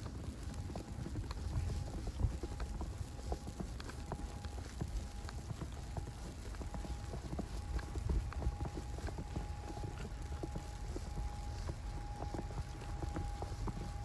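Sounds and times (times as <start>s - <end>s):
faint steady hum: 0.0s - 14.0s
footsteps crunching in snow: 0.0s - 14.0s
wind rumble on microphone: 0.0s - 14.0s.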